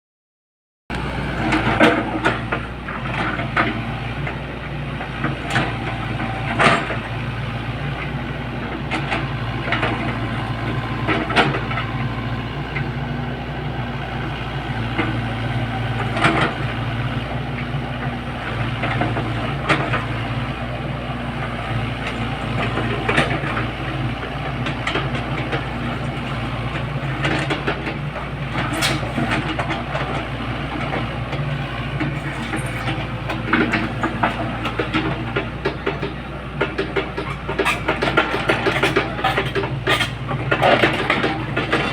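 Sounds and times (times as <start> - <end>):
excavator diesel engine running: 0.9 - 41.9.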